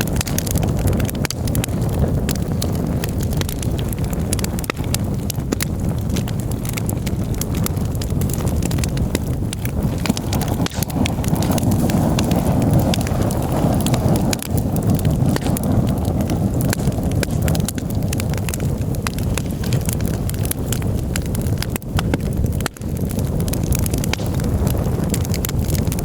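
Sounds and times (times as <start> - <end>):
campfire crackling and popping: 0.0 - 26.0
fire low rushing rumble: 0.0 - 26.0.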